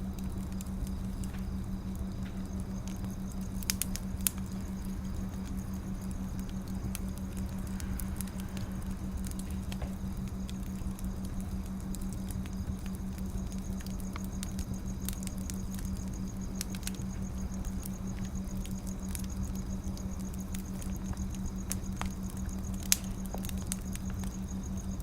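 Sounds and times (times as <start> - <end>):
steady low hum: 0.0 - 25.0
wood fire crackling: 0.0 - 25.0.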